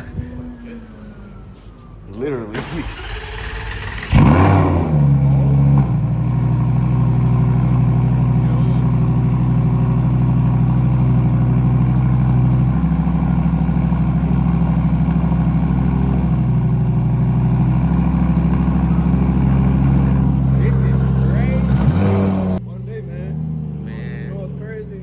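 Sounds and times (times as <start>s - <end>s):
car engine starting and revving: 2.5s - 25.0s
car engine idling loudly: 2.6s - 25.0s.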